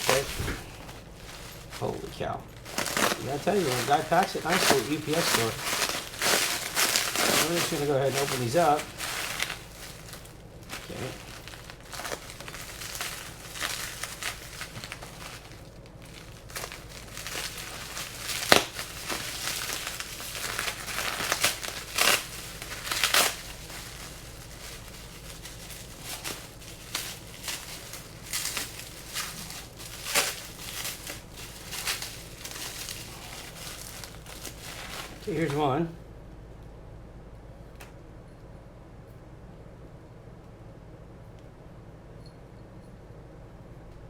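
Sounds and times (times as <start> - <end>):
packing material crinkling and tearing: 0.0 - 35.9.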